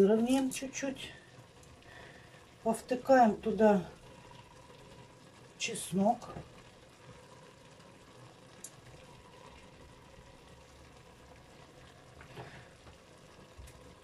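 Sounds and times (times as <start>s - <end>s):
faint sizzling: 0.0s - 14.0s.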